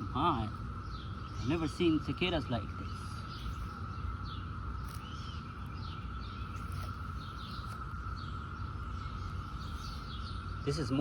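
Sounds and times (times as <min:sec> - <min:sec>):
birds chirping: 0:00.0 - 0:11.0
cicadas droning: 0:00.0 - 0:11.0.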